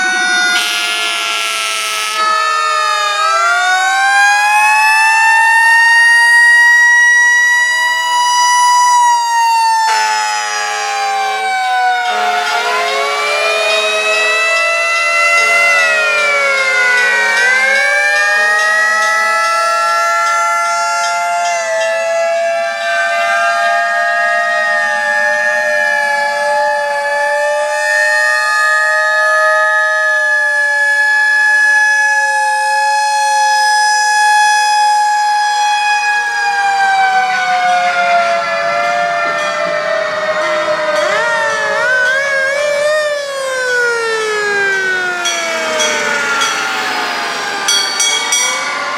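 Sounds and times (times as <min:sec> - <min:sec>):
fire truck sirens wailing: 0:00.0 - 0:48.9.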